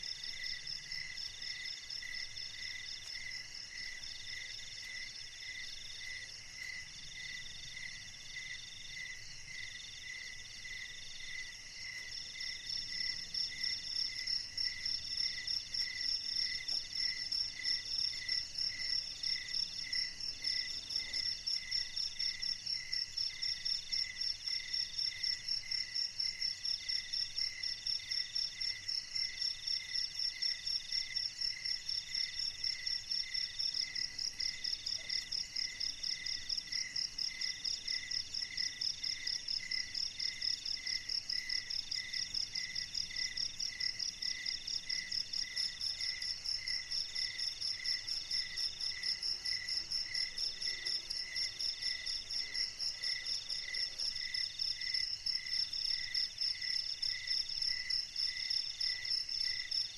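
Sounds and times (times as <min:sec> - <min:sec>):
low cricket chirp: 0:00.0 - 0:59.9.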